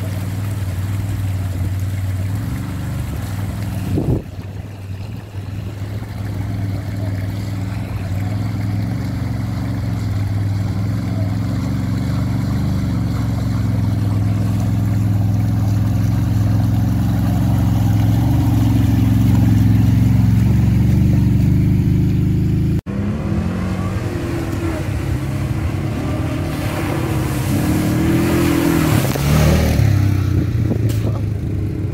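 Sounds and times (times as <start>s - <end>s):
atv engine running: 0.0s - 31.9s.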